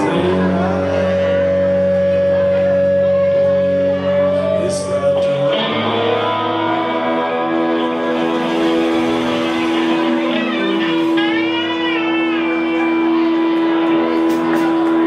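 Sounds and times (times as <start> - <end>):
live rock band with horns: 0.0 - 15.0.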